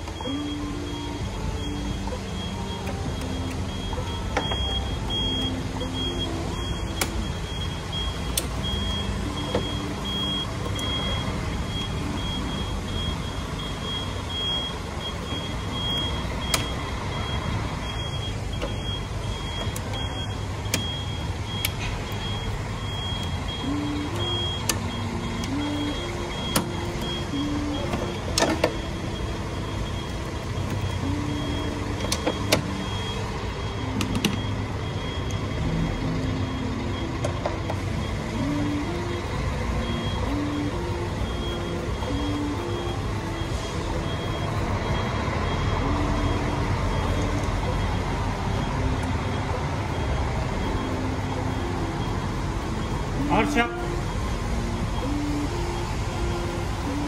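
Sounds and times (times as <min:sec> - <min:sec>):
car engine idling: 0:00.0 - 0:57.0
high electronic tone: 0:00.0 - 0:57.0.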